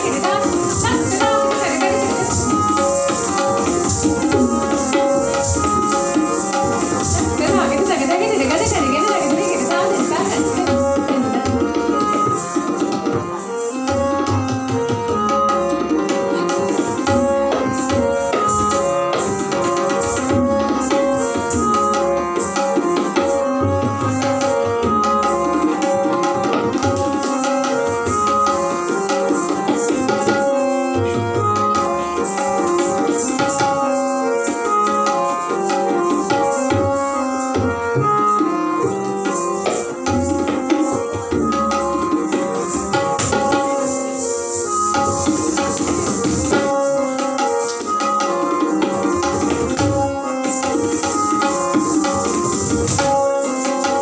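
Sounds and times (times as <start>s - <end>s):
tabla playing quick rhythm: 0.0s - 54.0s.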